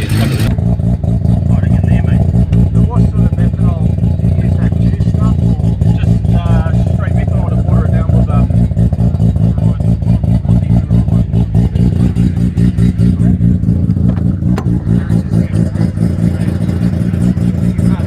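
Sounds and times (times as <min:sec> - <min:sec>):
rotary engine idling: 0:00.0 - 0:18.0.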